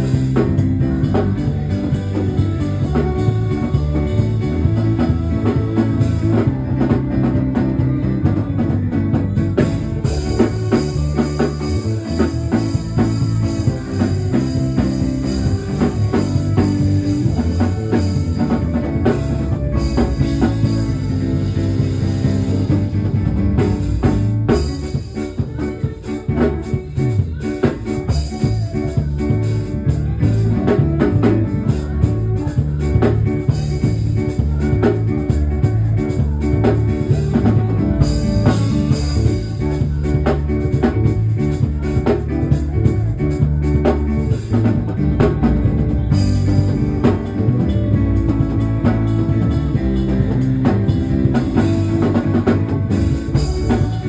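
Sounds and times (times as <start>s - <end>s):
bass line: 0.0s - 54.0s
drum kit: 0.0s - 54.0s
guitar: 0.0s - 54.0s.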